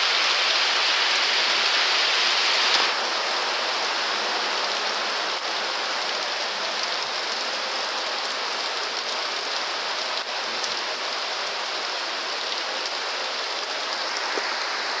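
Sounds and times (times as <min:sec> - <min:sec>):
heavy rain on foliage: 0:00.0 - 0:15.0.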